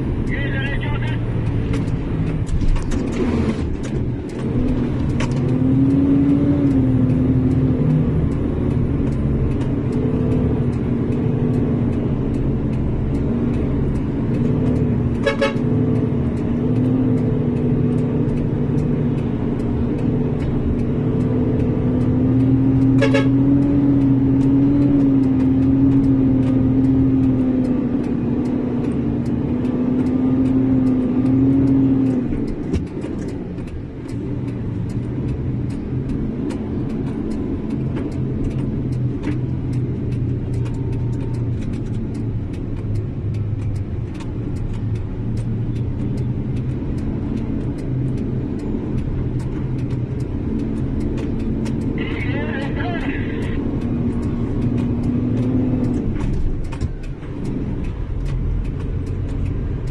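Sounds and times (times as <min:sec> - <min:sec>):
truck engine droning: 0:00.0 - 0:59.9.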